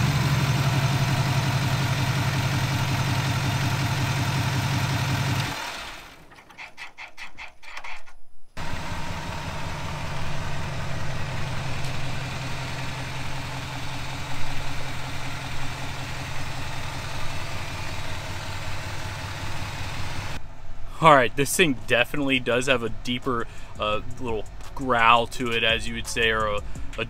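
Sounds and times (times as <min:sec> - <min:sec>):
diesel engine idling: 0:00.0 - 0:06.3, 0:08.6 - 0:27.0.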